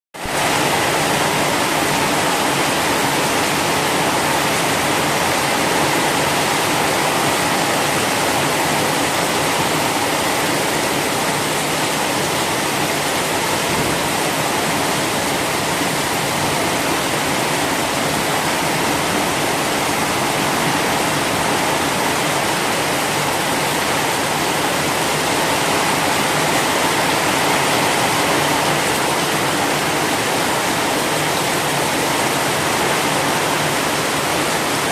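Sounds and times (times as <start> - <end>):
heavy rain pouring: 0.2 - 34.9.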